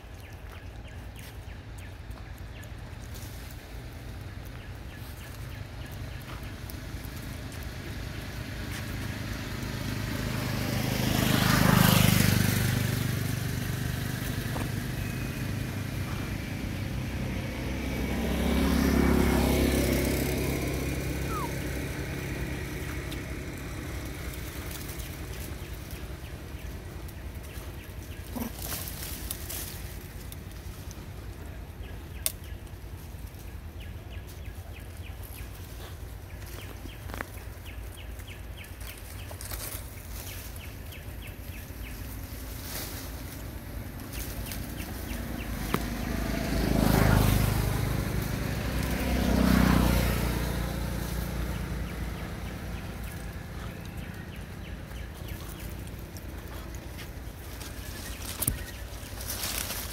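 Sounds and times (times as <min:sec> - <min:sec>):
vehicles driving past: 0:00.0 - 0:59.9.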